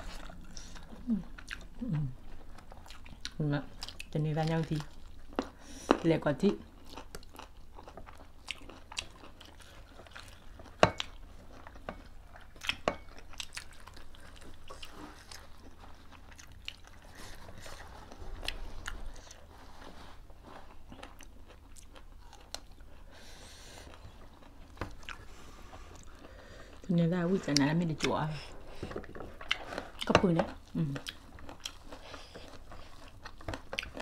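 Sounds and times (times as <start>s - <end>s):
chewing and biting food: 0.0s - 34.0s.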